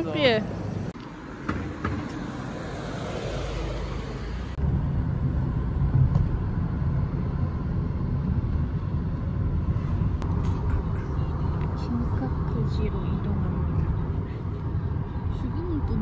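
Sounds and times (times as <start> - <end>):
road and engine rumble in car: 0.0 - 16.0
street ambience: 0.0 - 16.0.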